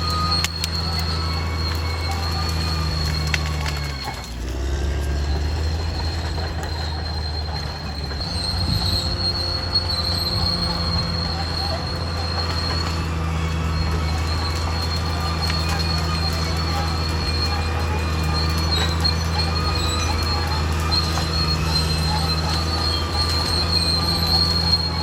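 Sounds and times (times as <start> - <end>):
bulldozer diesel engine running: 0.0 - 25.0
high squeal of steel tracks: 0.0 - 25.0.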